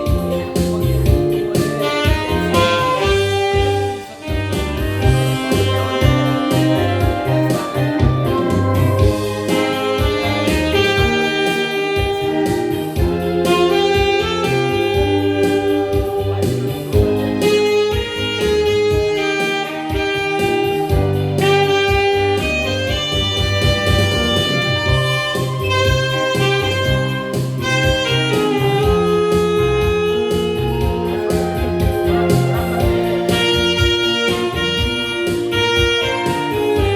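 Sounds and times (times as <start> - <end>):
bass and keyboard accompaniment: 0.0 - 36.9
saxophone melody: 0.0 - 36.9.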